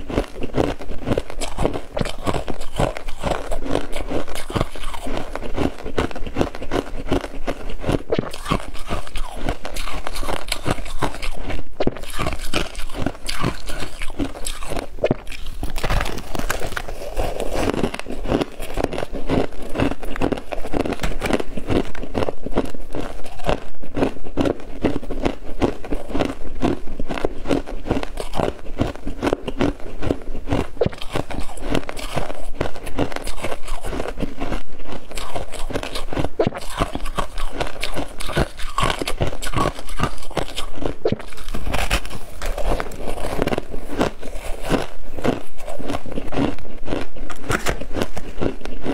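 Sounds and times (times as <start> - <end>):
frost being chewed: 0.0 - 48.9.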